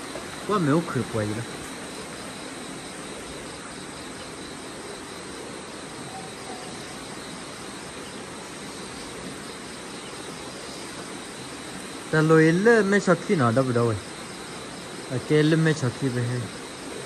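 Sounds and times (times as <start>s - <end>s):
background hiss: 0.0s - 17.0s
insects trilling: 0.0s - 17.0s.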